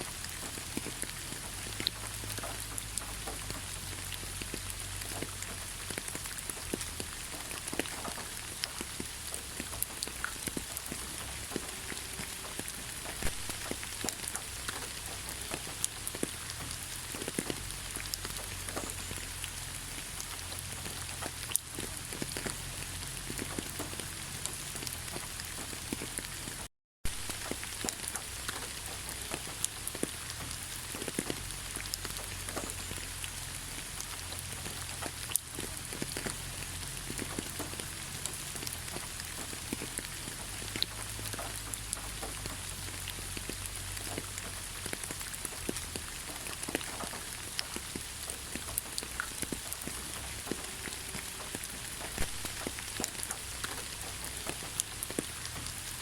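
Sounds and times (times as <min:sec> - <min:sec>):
rain drops clicking on a surface: 0:00.0 - 0:56.0.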